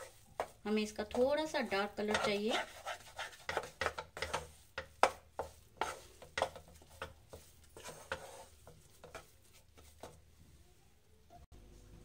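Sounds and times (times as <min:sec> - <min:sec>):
wooden spatula scraping pan: 0:00.0 - 0:10.3.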